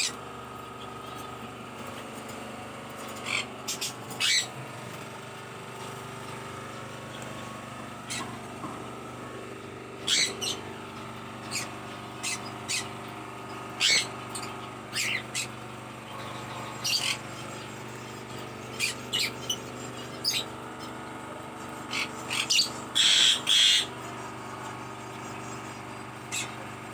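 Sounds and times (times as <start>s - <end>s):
birds chirping: 0.0s - 26.9s
steady low hum: 0.0s - 26.9s.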